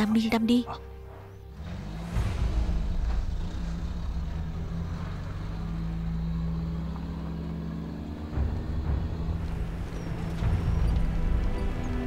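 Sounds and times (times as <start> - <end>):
car engine running: 0.2 - 12.0.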